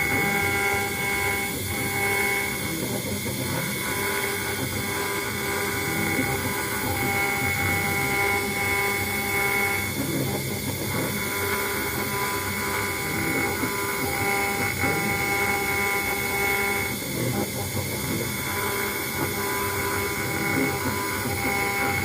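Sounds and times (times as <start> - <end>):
cutter engraving metal: 0.0 - 22.0
router spindle whine: 0.0 - 22.0.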